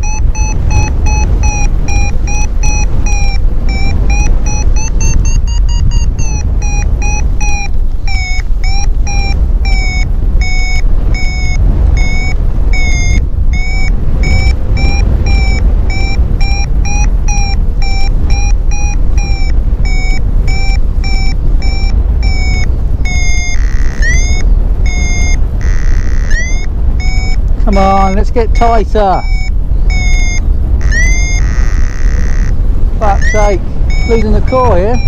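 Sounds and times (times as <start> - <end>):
variometer short beeps: 0.0 - 35.0
wind noise on microphone: 0.0 - 35.0.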